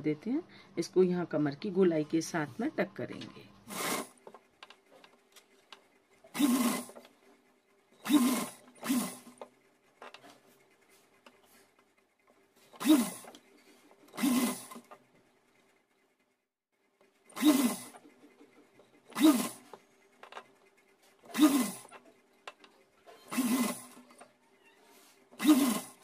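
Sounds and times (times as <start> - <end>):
sewing machine stitching: 3.2 - 26.0.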